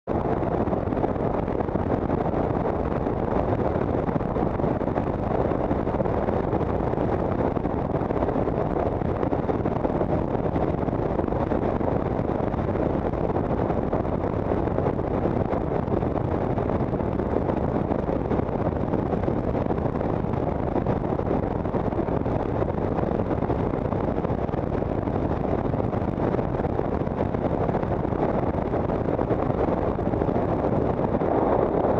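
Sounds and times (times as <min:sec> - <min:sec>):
wind buffeting microphone: 0:00.1 - 0:31.9.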